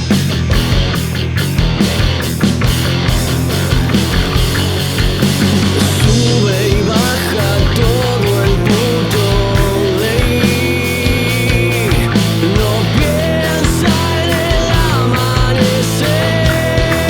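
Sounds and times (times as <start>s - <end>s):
bass guitar: 0.0s - 17.0s
drums: 0.0s - 17.0s
electric guitars bending notes: 0.0s - 17.0s.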